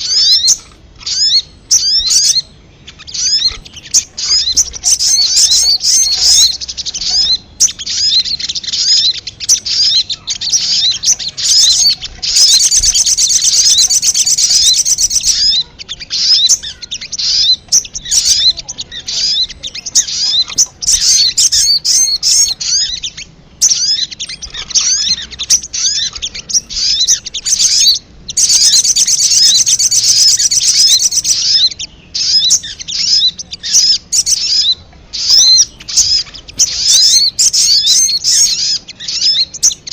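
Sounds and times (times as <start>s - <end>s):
sunbirds chirping and trilling: 0.0s - 39.9s.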